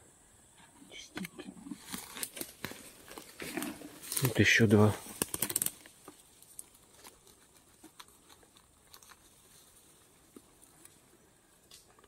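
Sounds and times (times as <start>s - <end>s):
dry grass and leaves crackling: 1.6s - 12.0s.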